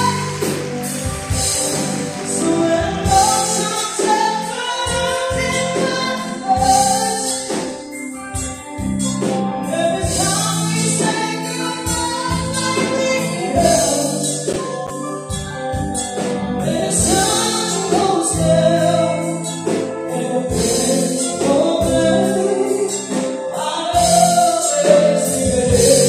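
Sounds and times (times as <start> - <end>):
woman singing into a microphone: 0.0 - 1.5, 2.1 - 8.4, 9.6 - 15.3, 16.5 - 26.0
drums: 0.0 - 26.0
electric guitar: 0.0 - 26.0.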